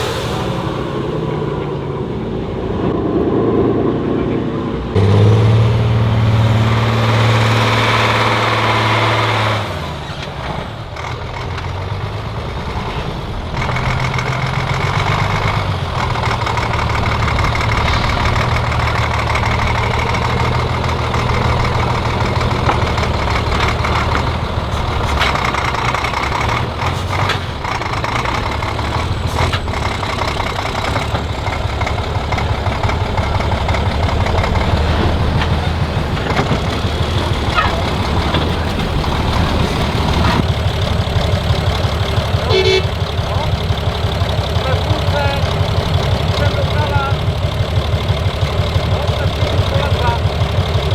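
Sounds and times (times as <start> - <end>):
truck diesel engine running: 0.0 - 50.9.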